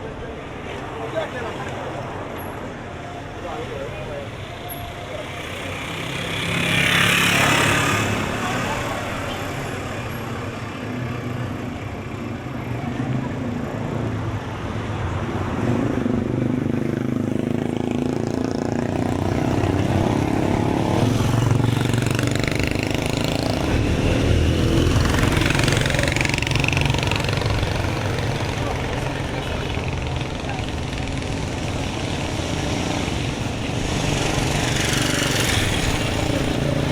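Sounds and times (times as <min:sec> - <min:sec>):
vehicle engines running: 0:00.0 - 0:36.9.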